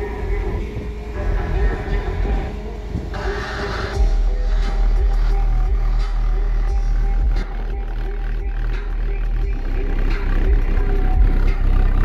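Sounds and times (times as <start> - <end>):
bass-heavy music through subwoofers: 0.0 - 12.0.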